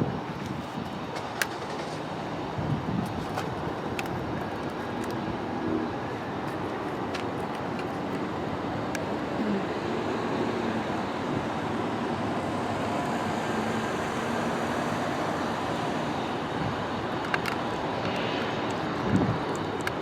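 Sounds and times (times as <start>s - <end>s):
distant engines and traffic: 0.0s - 20.0s.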